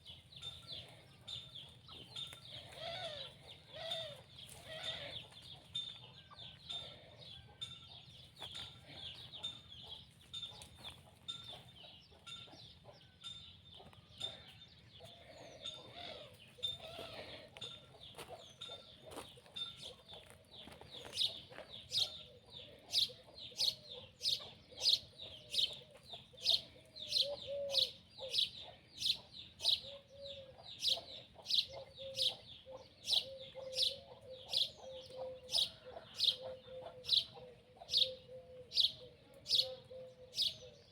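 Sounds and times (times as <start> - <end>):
chickens clucking: 0.0 - 40.9
other birds: 0.0 - 40.9.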